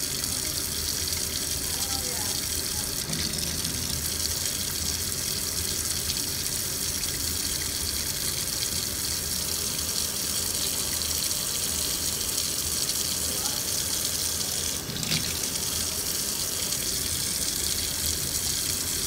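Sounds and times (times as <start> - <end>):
water running from faucet: 0.0 - 19.0.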